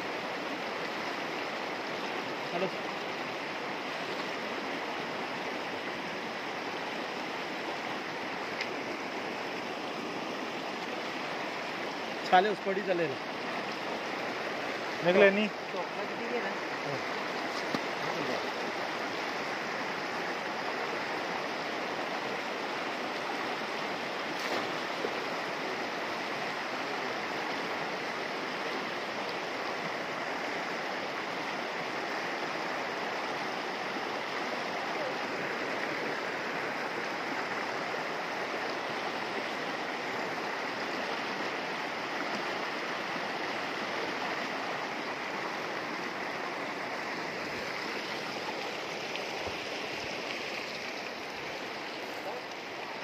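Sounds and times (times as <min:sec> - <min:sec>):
river flowing over stones: 0:00.0 - 0:53.0.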